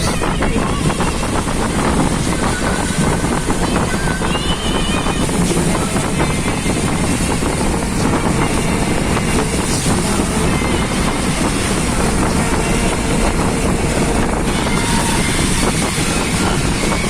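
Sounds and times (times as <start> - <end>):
vehicle running: 0.0 - 17.0
wind buffeting microphone: 0.0 - 17.0.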